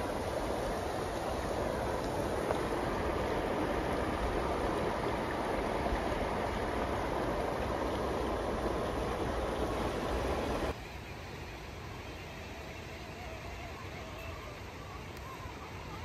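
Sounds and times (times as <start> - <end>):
river flowing over rocks: 0.0 - 16.0.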